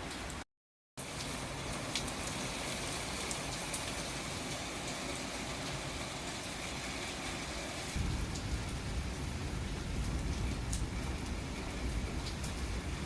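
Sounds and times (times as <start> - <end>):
steady rain hiss: 1.0 - 13.0.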